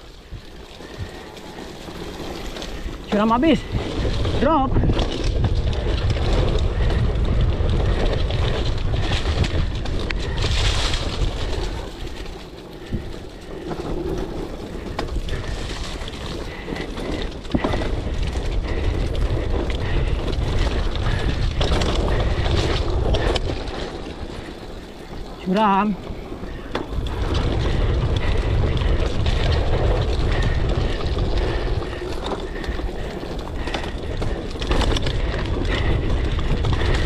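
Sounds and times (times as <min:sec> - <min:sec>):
bike rattling over rough ground: 0:00.0 - 0:37.0
wind buffeting microphone: 0:00.0 - 0:37.0.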